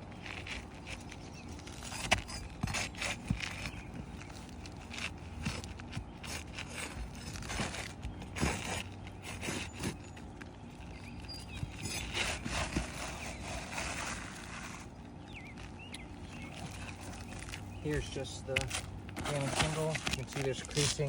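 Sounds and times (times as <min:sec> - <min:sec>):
roof shingles scraping: 0:00.1 - 0:21.0.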